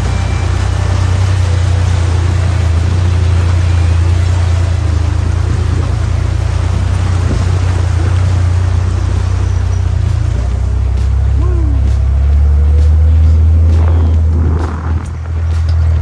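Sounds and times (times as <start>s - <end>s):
jeep engine droning: 0.0s - 16.0s
water spraying off wheel: 0.0s - 16.0s.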